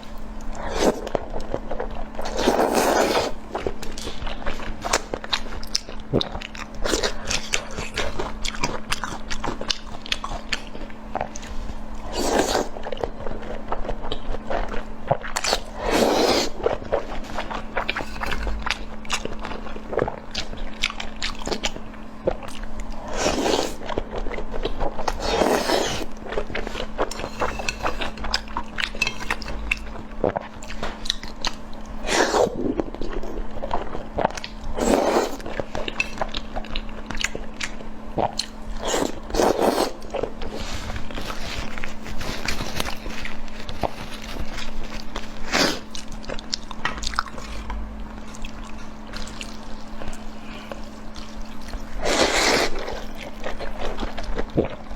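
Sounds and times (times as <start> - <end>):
person chewing crunchy food: 0.0 - 54.9
steady low hum: 0.0 - 54.9.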